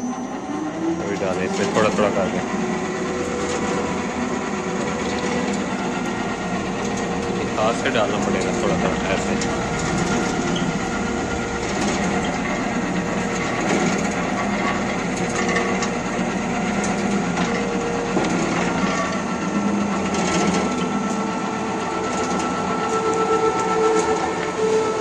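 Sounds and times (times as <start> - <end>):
machine motor whirring: 0.0 - 25.0.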